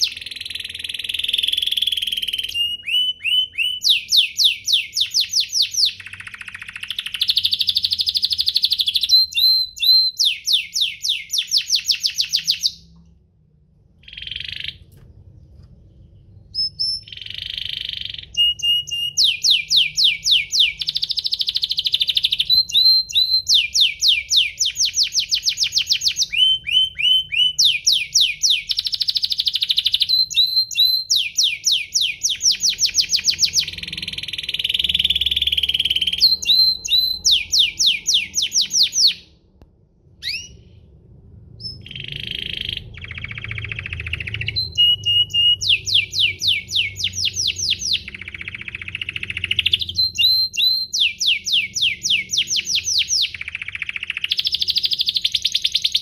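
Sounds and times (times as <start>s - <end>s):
canary singing trills: 0.0s - 13.0s, 14.0s - 39.3s, 40.2s - 40.7s, 41.6s - 56.0s.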